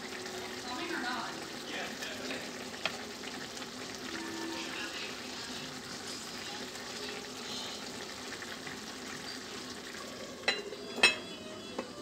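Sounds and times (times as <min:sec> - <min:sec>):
pot boiling and bubbling: 0:00.0 - 0:12.0.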